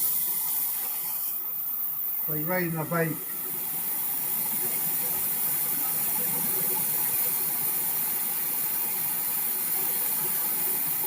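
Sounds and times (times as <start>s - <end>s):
welding torch flame hissing: 0.0s - 11.0s.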